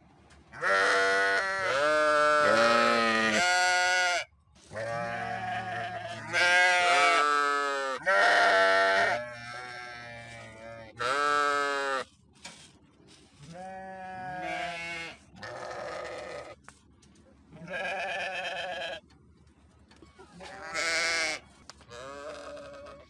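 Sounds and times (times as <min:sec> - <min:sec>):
sheep bleating: 0:00.6 - 0:12.1, 0:13.4 - 0:16.6, 0:17.6 - 0:19.0, 0:20.4 - 0:23.0.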